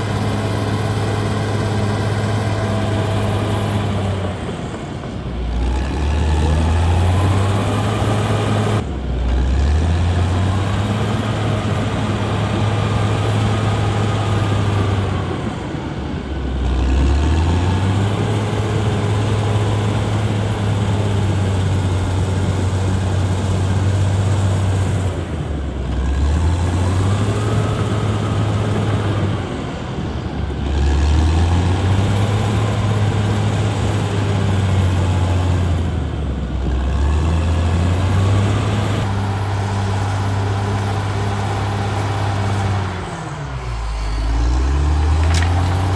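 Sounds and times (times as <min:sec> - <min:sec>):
bulldozer diesel engine working hard: 0:00.0 - 0:45.9.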